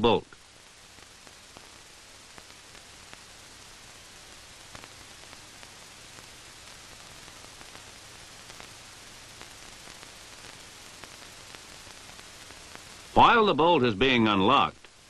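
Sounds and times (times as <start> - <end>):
film soundtrack surface hiss: 0.0 - 15.0.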